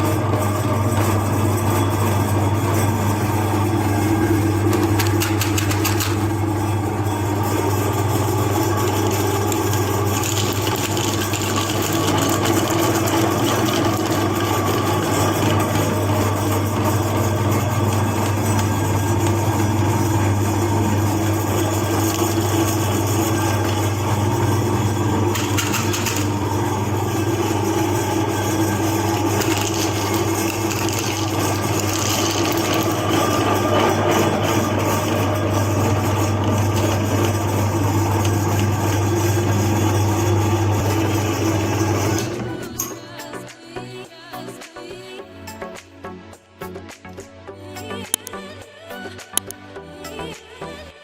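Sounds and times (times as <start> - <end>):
electric meat grinder grinding: 0.0 - 43.2.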